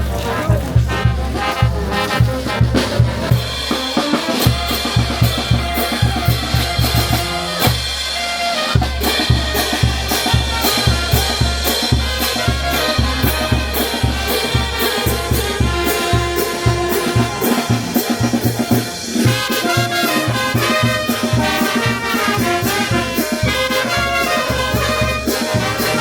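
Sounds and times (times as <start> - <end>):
bass drum beat: 0.0 - 8.0, 8.8 - 26.0
brass band playing festive music: 0.0 - 26.0.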